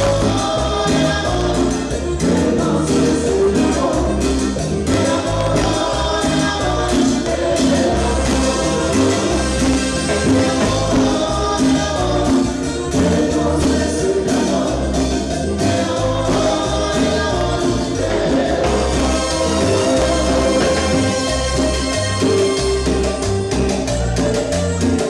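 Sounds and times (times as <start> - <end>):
people singing: 0.0 - 24.0
cumbia band playing live: 0.0 - 25.0.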